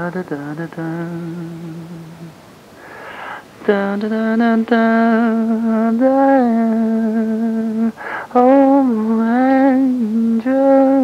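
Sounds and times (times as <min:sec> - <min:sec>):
person humming a melody: 0:00.0 - 0:02.4, 0:03.7 - 0:11.0.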